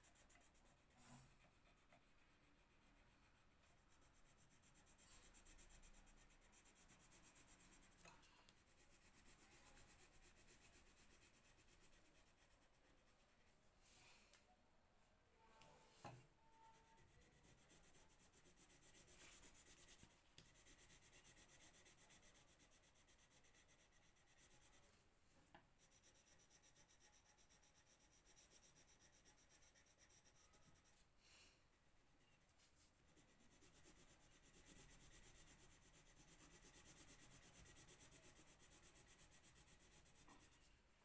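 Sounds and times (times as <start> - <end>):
pencil scratching on paper: 0.0 - 13.6, 16.5 - 25.0, 25.8 - 31.1, 31.7 - 40.7.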